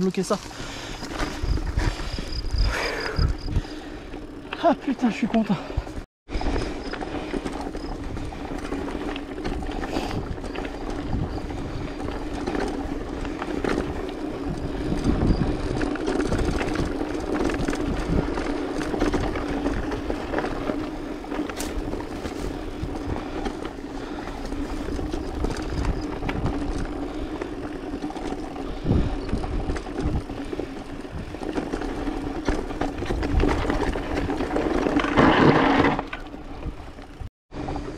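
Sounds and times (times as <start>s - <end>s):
bike rattling over bumps: 0.0s - 37.9s
bike tyres rolling over dirt: 0.0s - 37.9s.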